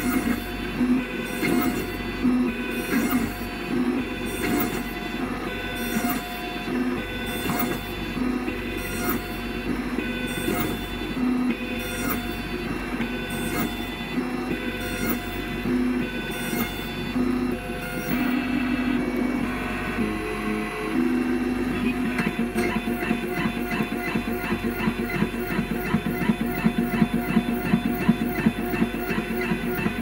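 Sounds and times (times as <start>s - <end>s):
milling machine motor whine: 0.0s - 30.0s.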